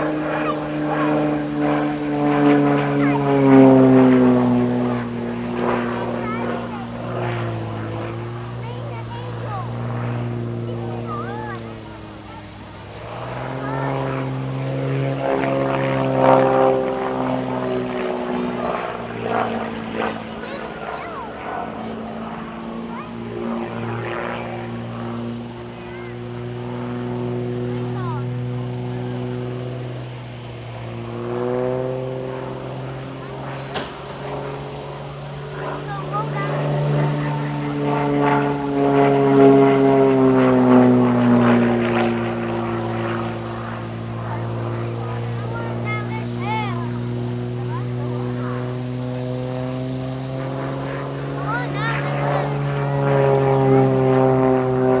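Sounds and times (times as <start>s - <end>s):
propeller plane droning past: 0.0s - 55.0s.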